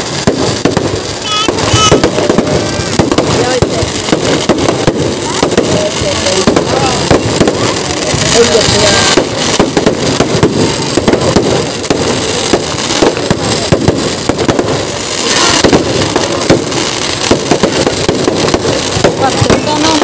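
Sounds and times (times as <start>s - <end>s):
firecracker bangs and crackles: 0.0s - 20.0s.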